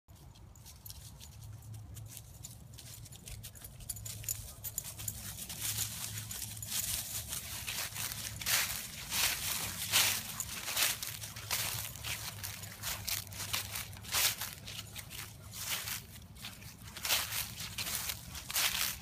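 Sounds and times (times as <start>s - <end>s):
dry leaves crunching underfoot: 0.2s - 19.0s.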